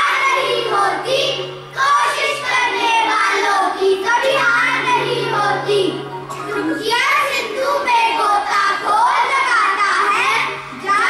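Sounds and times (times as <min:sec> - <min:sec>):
children chanting a poem: 0:00.0 - 0:11.0.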